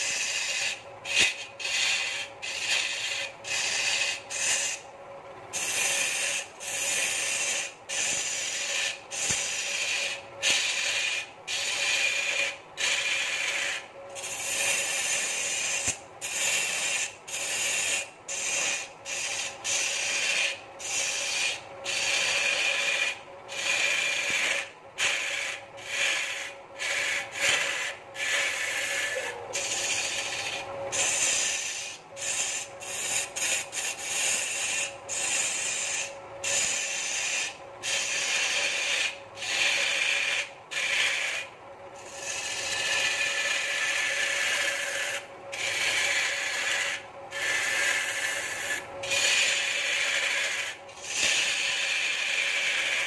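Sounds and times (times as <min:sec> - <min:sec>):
cutter rubbing spinning wood: 0:00.0 - 0:04.9, 0:05.5 - 0:53.0
lathe drive hum: 0:00.0 - 0:53.0.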